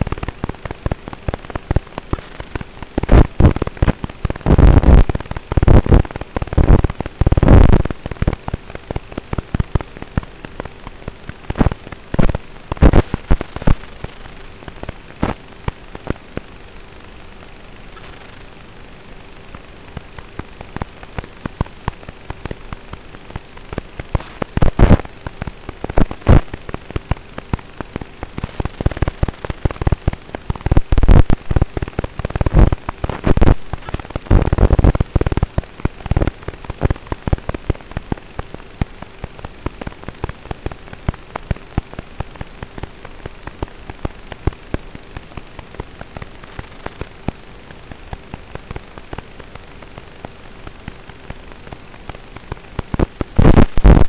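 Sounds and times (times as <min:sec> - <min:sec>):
crackling and popping: 0:00.0 - 0:54.0
faint steady hum: 0:00.0 - 0:54.0
steady hiss: 0:00.0 - 0:54.0.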